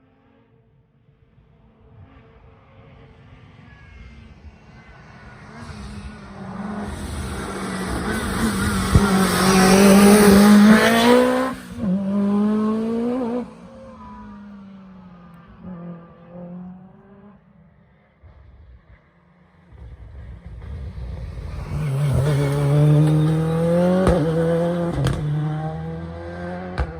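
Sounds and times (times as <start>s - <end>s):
rally car engine passing: 1.9s - 26.9s.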